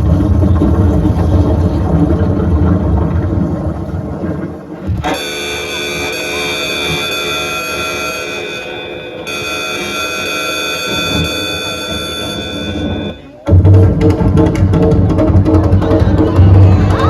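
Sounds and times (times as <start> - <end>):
loud droning tone: 0.0 - 17.0.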